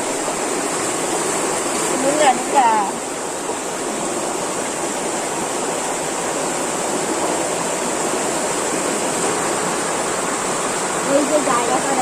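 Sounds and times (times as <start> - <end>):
water rushing through sluice gate: 0.0 - 12.0.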